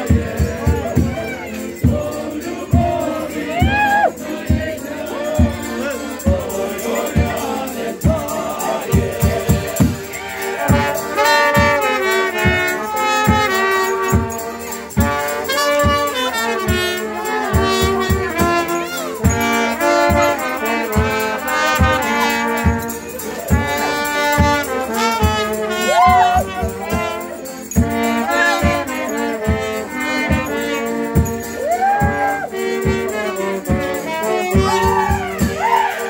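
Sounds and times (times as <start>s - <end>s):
steady drum beat: 0.0s - 36.0s
trumpets and trombones playing: 0.0s - 36.0s.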